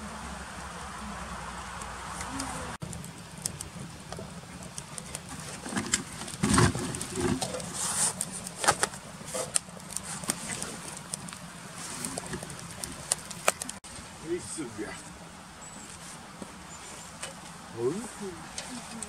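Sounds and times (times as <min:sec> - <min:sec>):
wood fire crackling and popping: 0:00.5 - 0:19.0.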